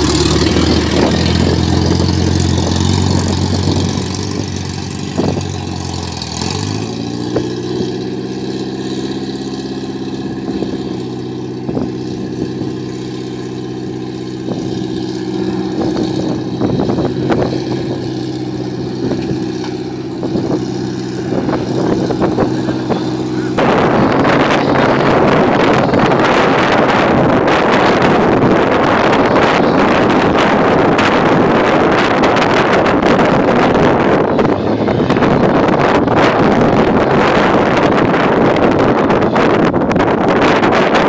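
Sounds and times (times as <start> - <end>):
truck engine driving past: 0.0 - 41.0.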